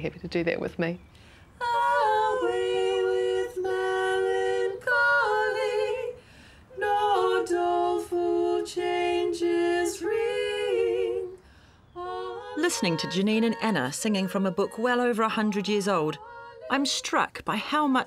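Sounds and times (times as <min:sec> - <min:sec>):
women singing in harmony: 0:01.6 - 0:18.0.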